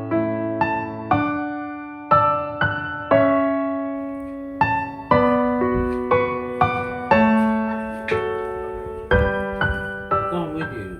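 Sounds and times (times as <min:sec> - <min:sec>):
slow solo piano melody: 0:00.0 - 0:10.9.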